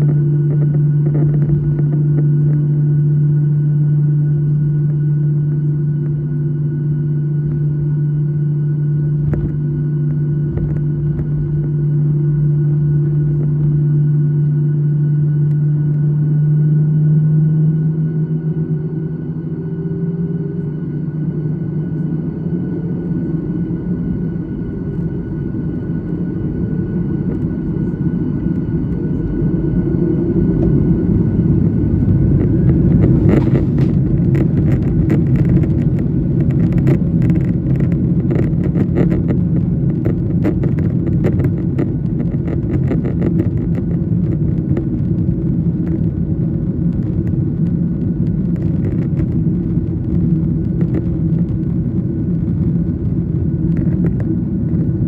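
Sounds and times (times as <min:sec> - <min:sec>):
jet engines rumbling in cabin: 0:00.0 - 0:55.0.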